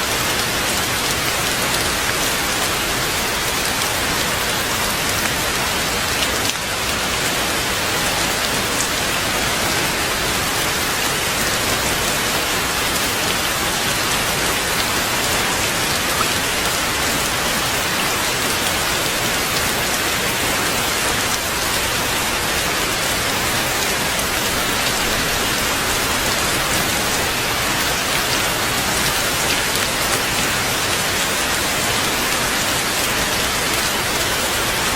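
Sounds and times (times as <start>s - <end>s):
heavy rain on leaves: 0.0s - 34.9s.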